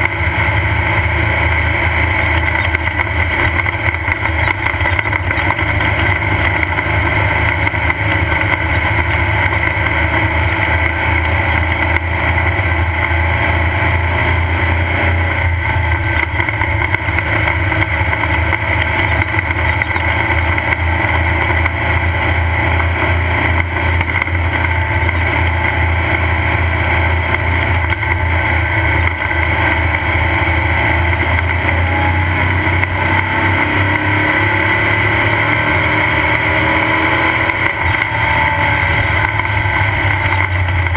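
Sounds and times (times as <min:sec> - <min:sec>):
race car engine running loudly: 0:00.0 - 0:40.9.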